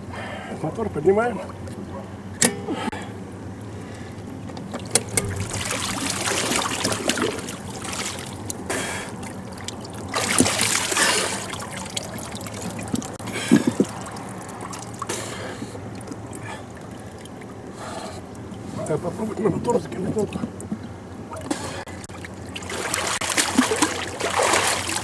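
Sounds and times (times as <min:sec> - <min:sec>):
water splashing and trickling: 0:03.7 - 0:25.0.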